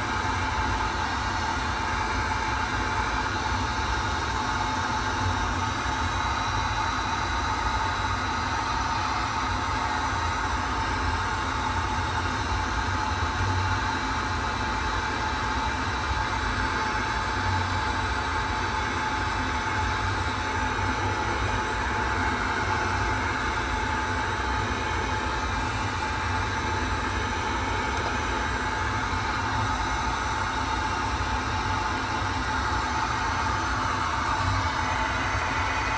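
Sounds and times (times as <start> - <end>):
machine whirring with high whine: 0.0 - 35.9.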